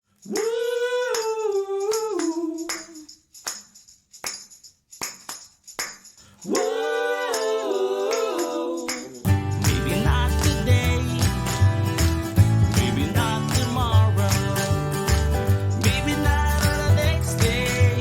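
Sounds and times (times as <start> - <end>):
tambourine-like percussion hits: 0.2 - 7.6, 8.2 - 18.0.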